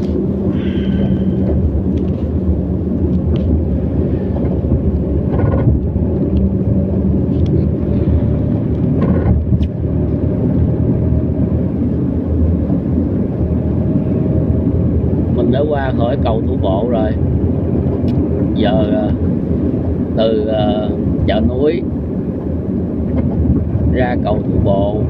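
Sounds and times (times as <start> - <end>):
engine and road rumble: 0.0 - 25.0
wind rumbling on microphone: 0.0 - 25.0.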